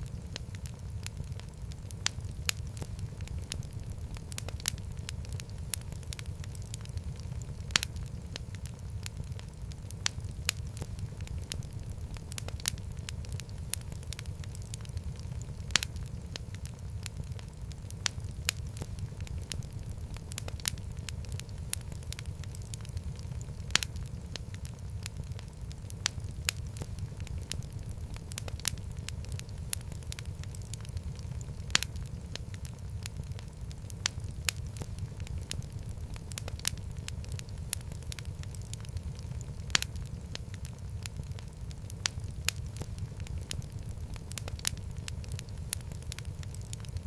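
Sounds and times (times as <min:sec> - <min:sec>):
fire crackling and popping: 0:00.0 - 0:47.0
fire rumbling: 0:00.0 - 0:47.0.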